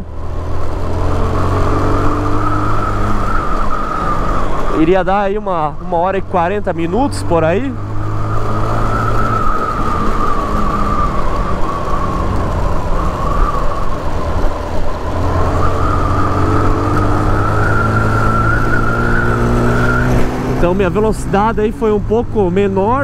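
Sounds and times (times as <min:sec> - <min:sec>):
motorcycle engine riding: 0:00.0 - 0:23.0.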